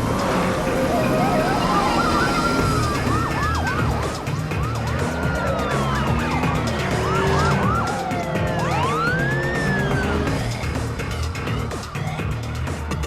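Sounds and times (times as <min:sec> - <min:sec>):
police sirens wailing: 0:00.0 - 0:13.0.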